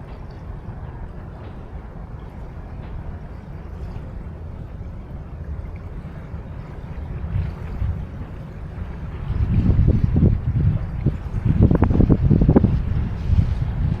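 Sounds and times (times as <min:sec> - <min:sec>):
small waves lapping: 0:00.0 - 0:14.0
steady low rumble: 0:00.0 - 0:14.0.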